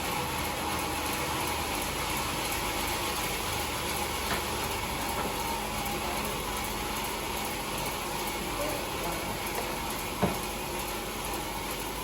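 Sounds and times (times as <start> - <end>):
band sawmill running: 0.0 - 12.0.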